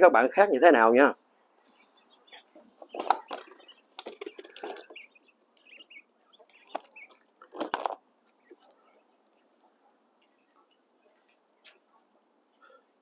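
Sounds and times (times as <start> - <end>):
rustling and scuffling: 1.7 - 12.2.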